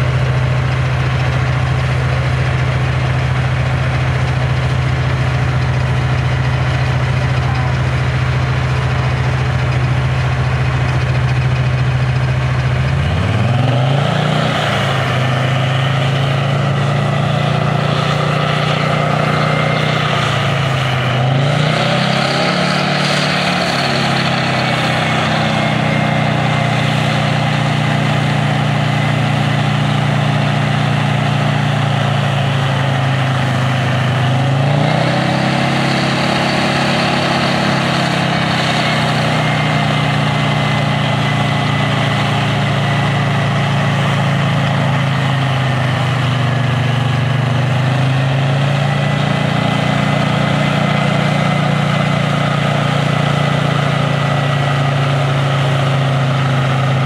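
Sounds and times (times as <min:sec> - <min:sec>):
diesel engine idling and revving: 0:00.0 - 0:57.0.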